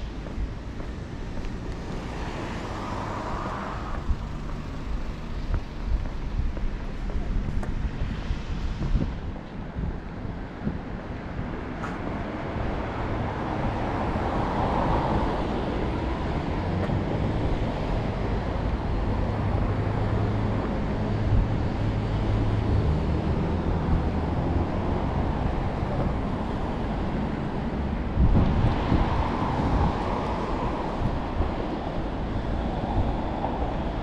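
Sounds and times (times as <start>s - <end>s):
low vehicle rumble: 0.0s - 34.0s
road traffic noise: 0.0s - 34.0s.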